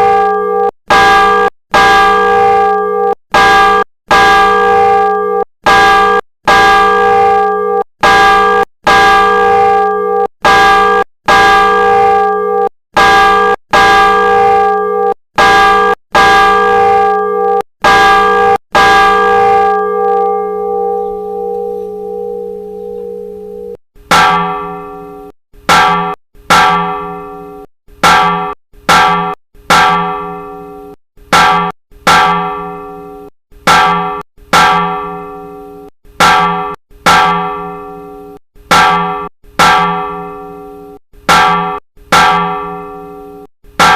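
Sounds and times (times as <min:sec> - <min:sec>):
church bell ringing: 0:00.0 - 0:27.6, 0:29.8 - 0:43.9
second church bell striking: 0:00.0 - 0:43.9.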